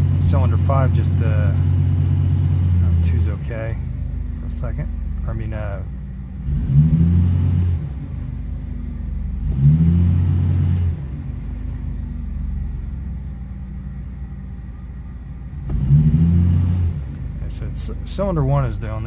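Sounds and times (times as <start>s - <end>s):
misfiring van engine revving: 0.0s - 19.0s.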